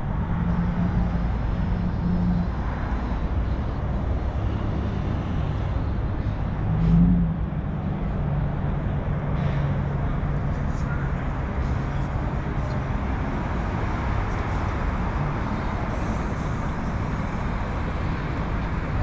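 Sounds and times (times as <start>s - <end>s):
traffic hum of passing vehicles: 0.0s - 19.0s.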